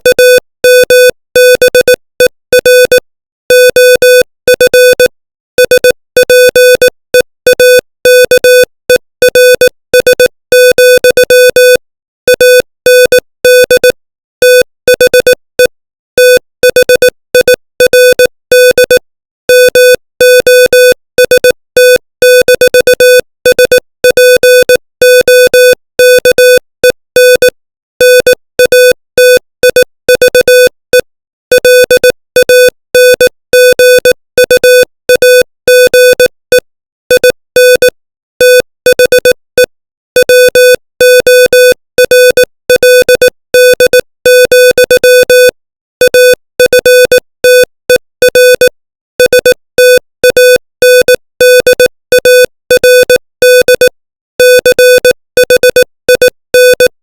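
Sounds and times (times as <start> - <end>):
morse code beeps: 0.0 - 57.0.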